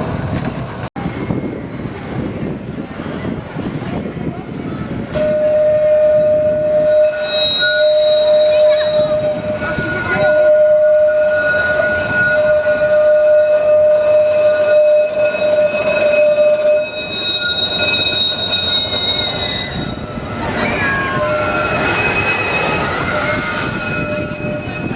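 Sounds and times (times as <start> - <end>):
tram wheels squealing on rails: 0.0 - 24.9.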